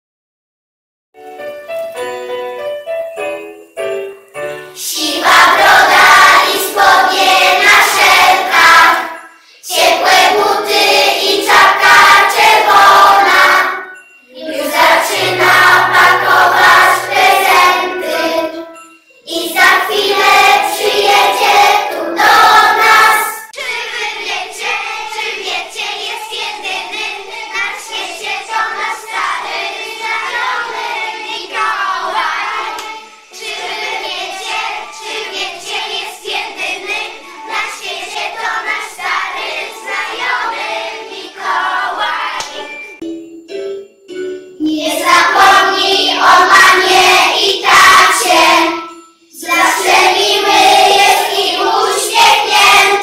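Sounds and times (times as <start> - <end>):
children singing in unison: 4.7 - 43.0, 44.6 - 53.0.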